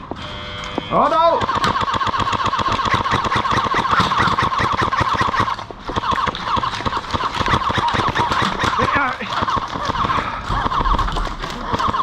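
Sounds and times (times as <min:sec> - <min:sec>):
airsoft guns firing full auto: 0:01.1 - 0:12.0.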